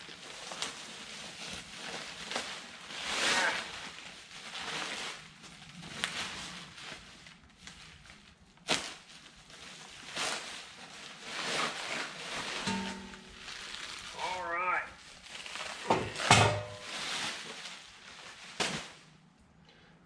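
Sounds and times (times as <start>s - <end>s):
bubble wrap crinkling: 0.0s - 19.3s.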